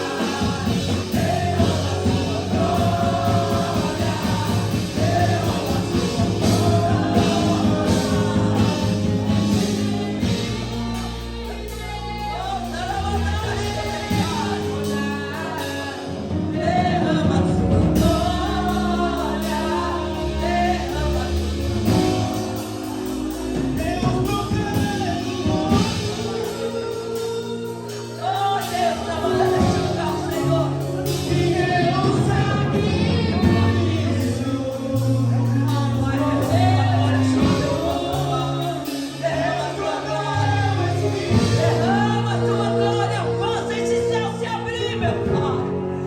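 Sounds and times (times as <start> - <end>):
bass line: 0.0 - 46.0
keyboard chords: 0.0 - 46.0
worship singing: 0.0 - 46.0.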